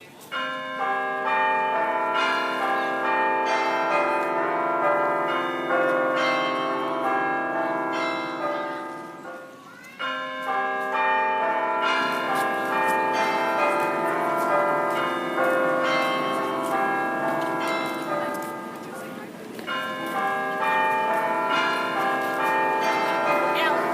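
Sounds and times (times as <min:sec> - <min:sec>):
chiming bells melody: 0:00.3 - 0:23.9.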